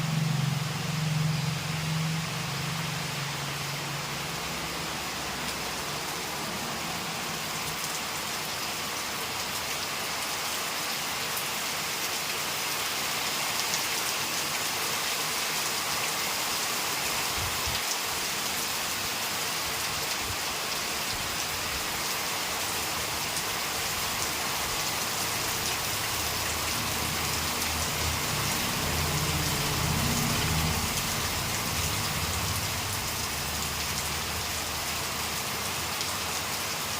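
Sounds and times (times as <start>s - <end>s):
heavy rain falling on a car: 0.0s - 36.9s.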